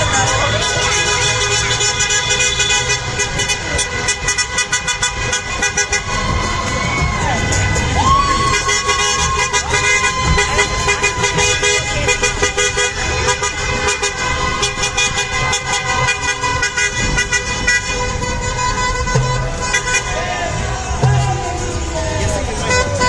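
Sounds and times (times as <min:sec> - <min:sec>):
vehicle horns honking: 0:00.0 - 0:23.0.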